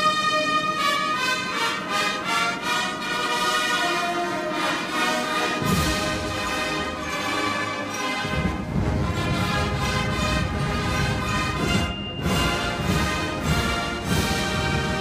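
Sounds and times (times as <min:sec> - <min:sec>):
brass band playing slow melody: 0:00.0 - 0:15.0.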